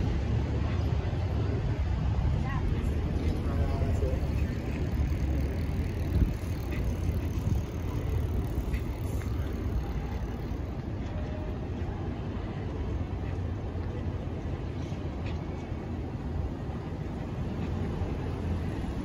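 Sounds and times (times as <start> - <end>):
slow city traffic rumble: 0.0 - 19.0.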